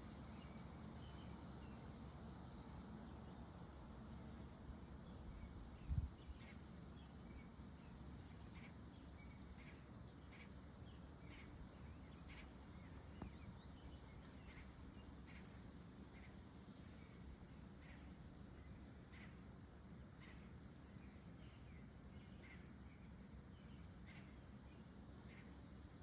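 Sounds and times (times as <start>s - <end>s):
low background rumble: 0.0s - 26.0s
birds chirping and trilling: 5.1s - 26.0s.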